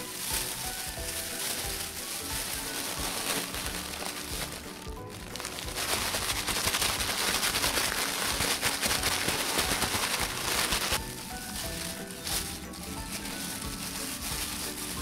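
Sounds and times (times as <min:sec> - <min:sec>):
background music: 0:00.0 - 0:15.0
plastic bag crinkling and rattling: 0:00.0 - 0:15.0.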